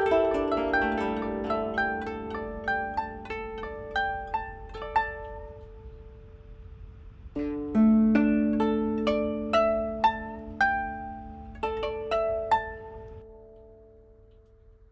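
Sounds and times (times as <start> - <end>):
koto plucked notes: 0.0 - 6.2, 7.4 - 14.7.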